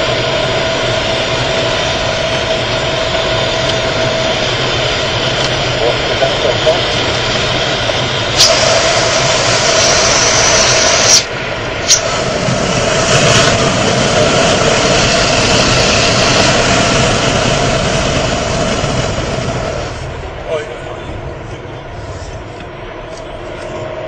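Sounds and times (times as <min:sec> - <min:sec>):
car engine at speed: 0:00.0 - 0:24.0
wind noise: 0:00.0 - 0:24.0.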